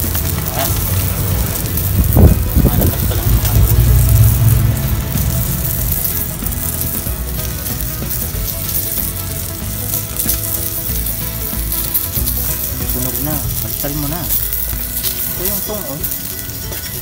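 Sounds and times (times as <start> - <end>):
fish sizzling on hot metal: 0.0 - 17.0.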